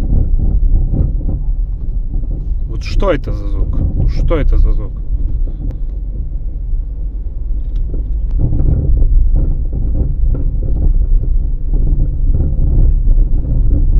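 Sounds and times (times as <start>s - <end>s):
car rumbling over rough ground: 0.0s - 13.9s.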